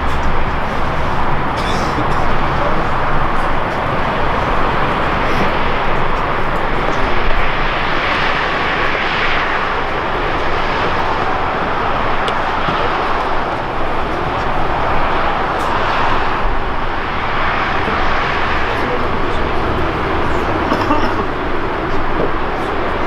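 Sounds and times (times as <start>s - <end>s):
jet engines rushing: 0.0s - 23.0s.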